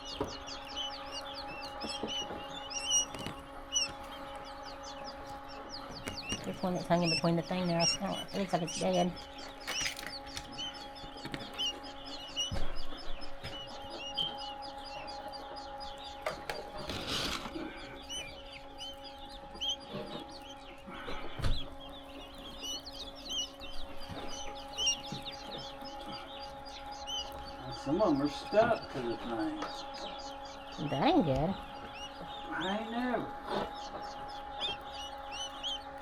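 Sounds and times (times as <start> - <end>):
chicks peeping: 0.0 - 36.0
steady low hum: 0.0 - 36.0.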